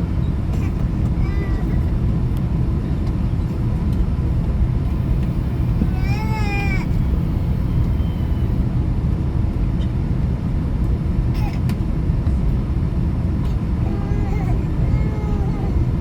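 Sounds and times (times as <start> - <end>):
jet cabin engine rumble: 0.0 - 16.0.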